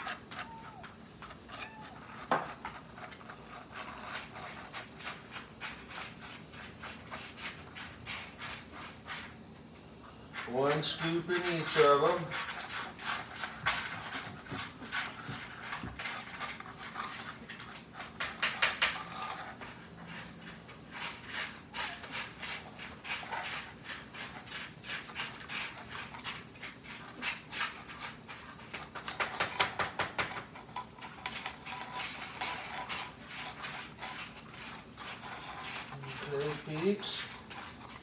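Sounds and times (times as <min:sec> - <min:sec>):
cats chewing wet food: 0:00.0 - 0:38.0.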